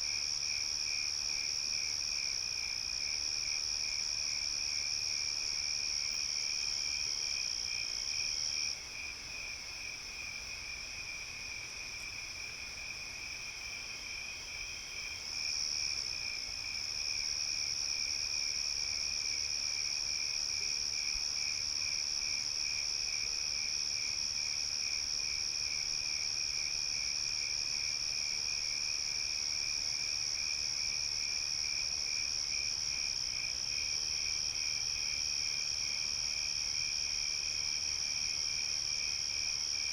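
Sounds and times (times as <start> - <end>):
low pulsing cricket chirp: 0.0 - 39.9.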